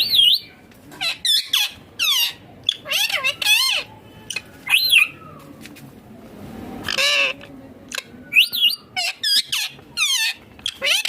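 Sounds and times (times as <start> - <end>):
parakeets squawking: 0.0 - 5.2, 6.9 - 11.0.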